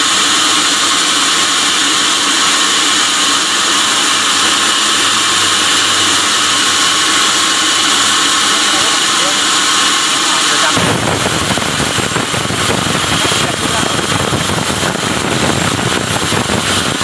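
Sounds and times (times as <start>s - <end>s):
sawmill saw cutting log: 0.0s - 17.0s.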